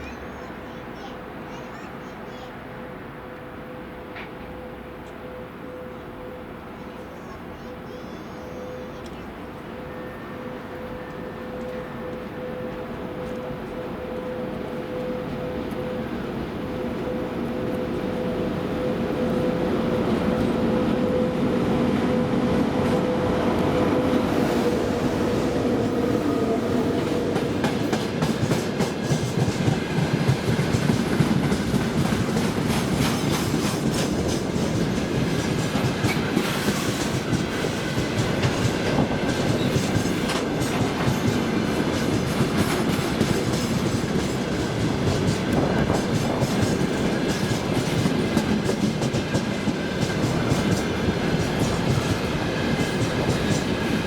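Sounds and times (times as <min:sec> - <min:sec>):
train wagons rumbling past: 0:08.5 - 0:54.0.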